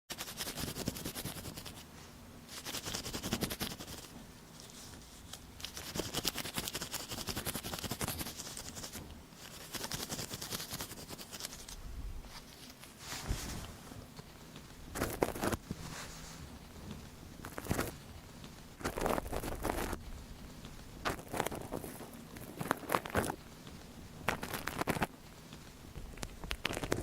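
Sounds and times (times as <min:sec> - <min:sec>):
crackly scratching on microphone: 0:00.1 - 0:01.9, 0:02.5 - 0:27.0.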